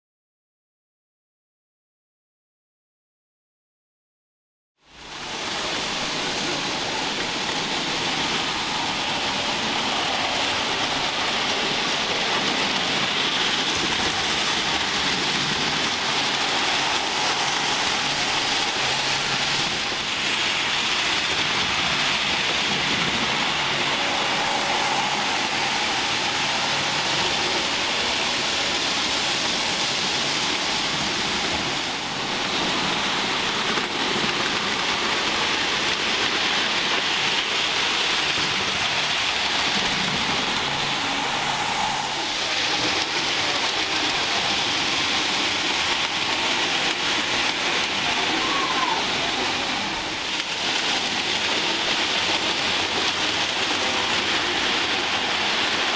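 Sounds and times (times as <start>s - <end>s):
model train wheels on rails: 4.9s - 55.9s.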